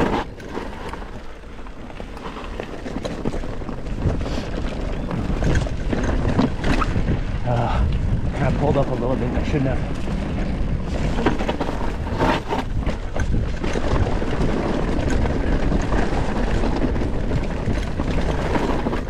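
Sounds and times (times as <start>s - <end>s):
bike rattling and knocking: 0.0s - 19.0s
tyres crunching over stones: 0.0s - 19.0s
wind on microphone: 1.0s - 19.0s.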